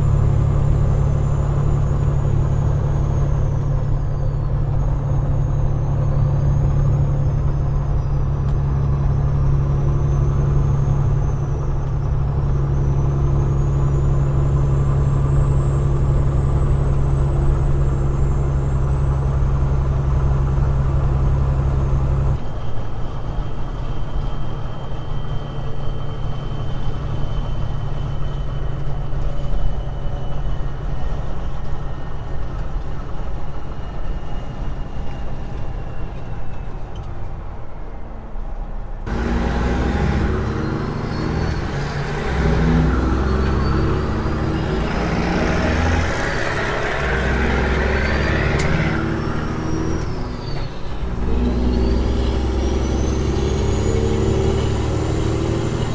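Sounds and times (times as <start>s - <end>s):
diesel truck engine droning: 0.0s - 55.9s.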